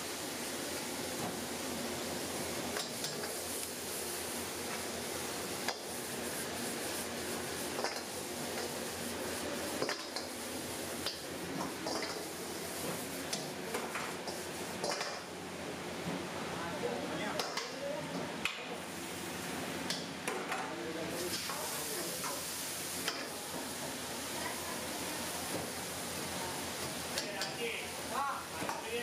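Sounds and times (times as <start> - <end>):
food frying: 0.0 - 15.4, 21.1 - 29.0
gas burner hiss: 0.0 - 15.9, 18.5 - 29.0.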